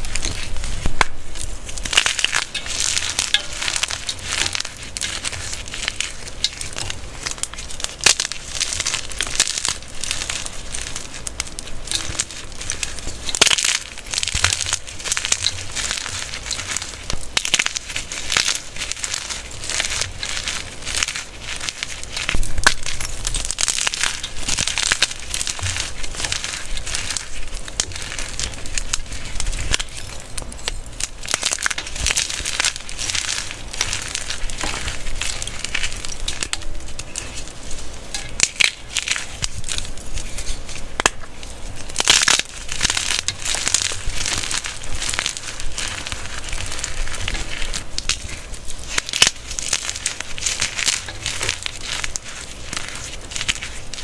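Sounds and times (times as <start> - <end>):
chalk crunching by hand: 0.0 - 54.0.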